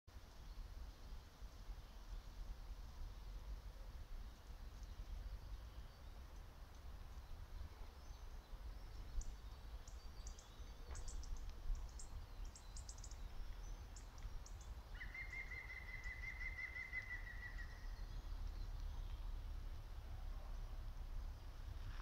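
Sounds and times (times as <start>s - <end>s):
small birds chirping: 3.0s - 22.0s.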